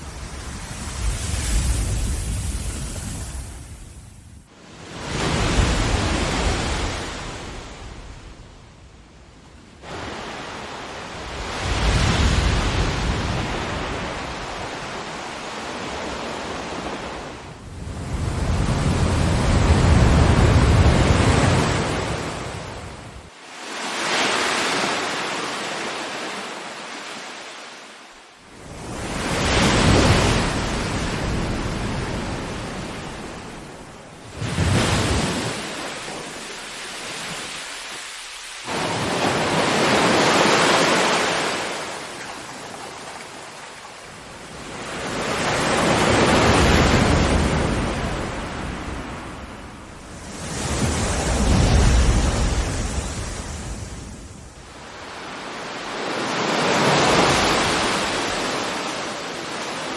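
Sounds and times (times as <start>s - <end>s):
ocean waves breaking: 0.0s - 8.4s, 9.8s - 59.9s.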